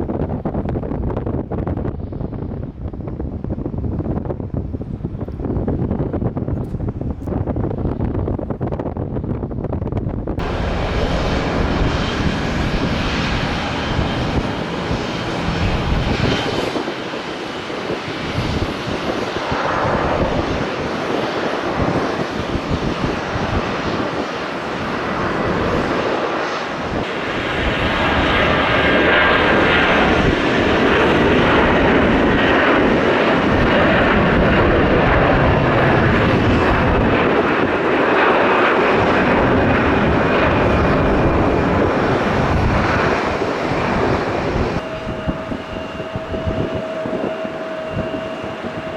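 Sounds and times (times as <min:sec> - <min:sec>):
jet engines rushing: 0:09.7 - 0:48.9.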